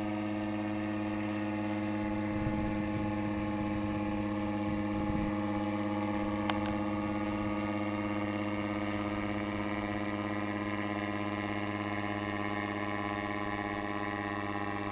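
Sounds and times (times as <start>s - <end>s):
paramotor engine droning: 0.0s - 14.9s.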